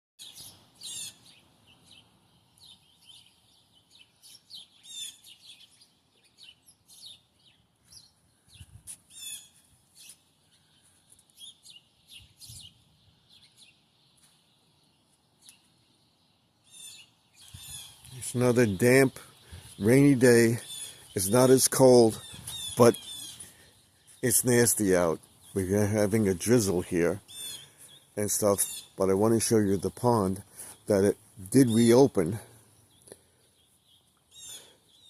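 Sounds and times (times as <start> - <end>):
songbirds chirping: 0.2 - 35.0.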